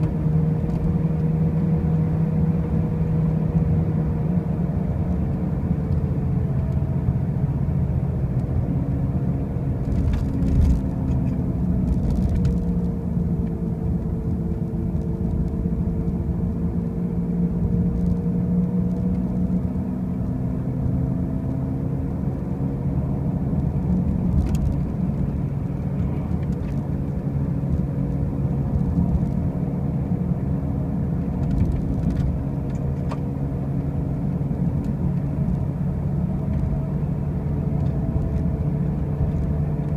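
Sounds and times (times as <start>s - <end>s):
car low drone: 0.0s - 39.9s
road noise: 0.0s - 39.9s.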